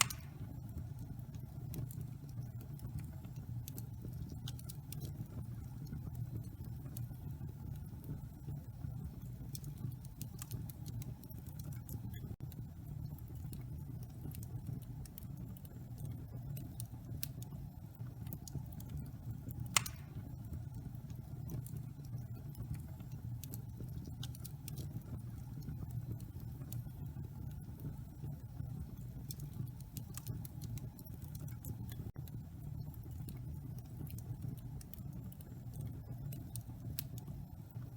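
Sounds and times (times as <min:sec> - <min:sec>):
wood fire crackling in fireplace: 0:00.0 - 0:37.9.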